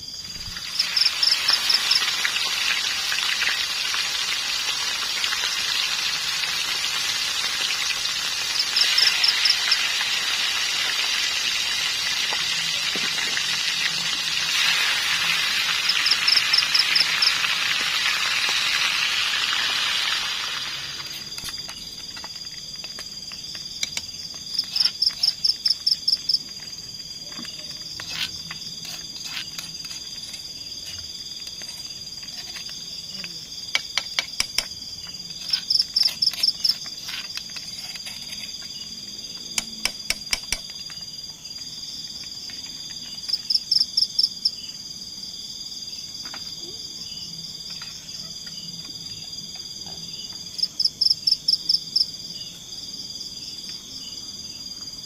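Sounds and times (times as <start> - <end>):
high-pitched insect trill: 0.0 - 55.0
insect chirp runs: 0.0 - 55.0.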